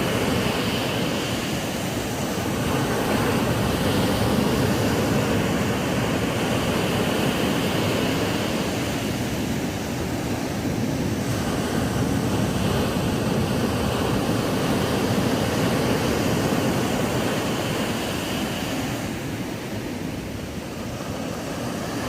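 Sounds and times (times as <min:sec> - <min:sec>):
ocean waves on beach: 0:00.0 - 0:22.0.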